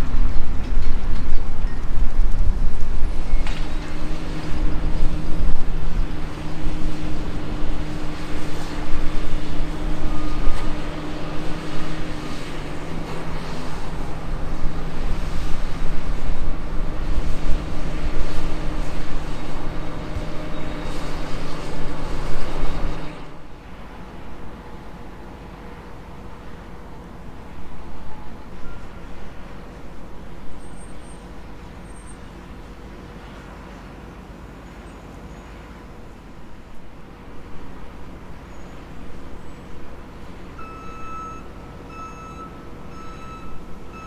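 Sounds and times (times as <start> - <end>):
excavator diesel engine rumbling: 0.0 - 44.0.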